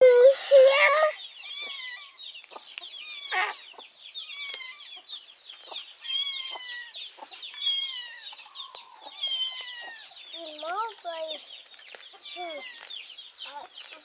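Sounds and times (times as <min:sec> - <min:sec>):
chicks peeping: 0:00.8 - 0:14.0.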